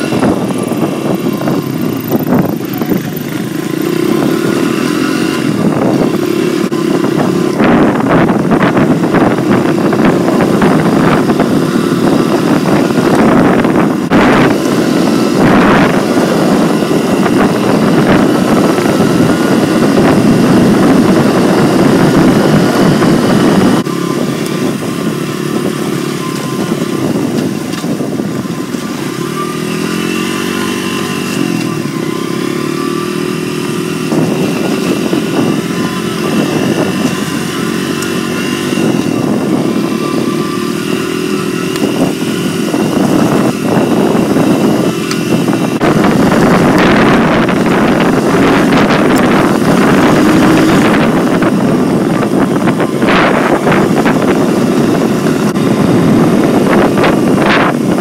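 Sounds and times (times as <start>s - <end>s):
dirt bike engine revving: 0.0s - 58.0s
wind rushing over microphone: 0.0s - 58.0s.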